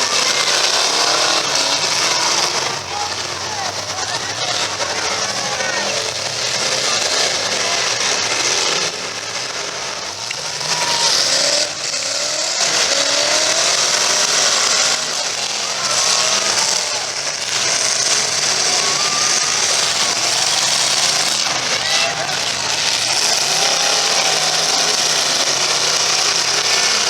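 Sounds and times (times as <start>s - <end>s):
car engines revving: 0.0s - 27.0s
engine and tyre noise: 0.0s - 27.0s.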